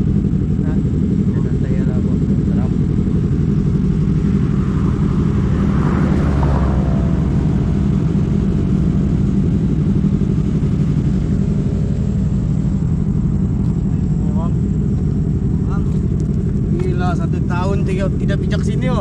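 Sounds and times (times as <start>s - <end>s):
motorcycle engine drone: 0.0s - 19.0s.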